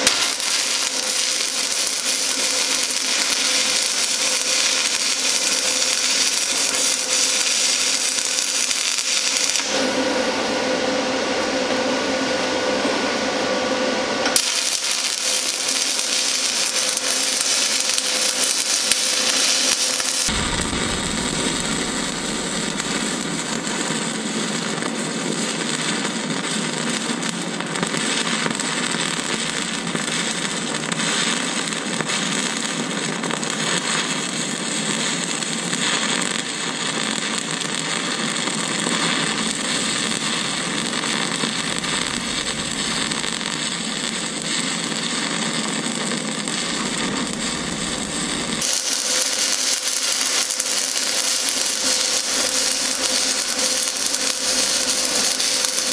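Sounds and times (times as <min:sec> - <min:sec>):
welding arc crackling: 0:00.0 - 0:10.4, 0:14.2 - 0:55.9.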